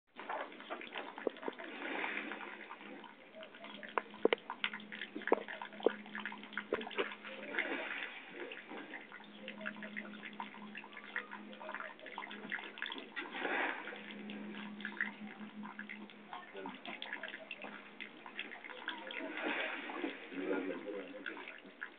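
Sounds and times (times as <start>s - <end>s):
liquid trickling and splashing: 0.2s - 21.9s.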